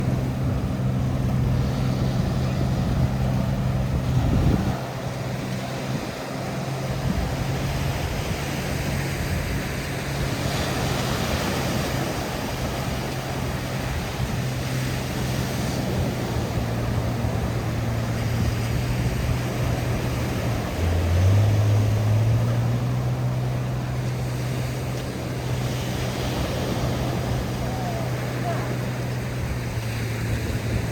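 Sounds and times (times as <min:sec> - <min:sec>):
low engine hum: 0:00.0 - 0:30.9
waves washing onto beach: 0:00.0 - 0:30.9.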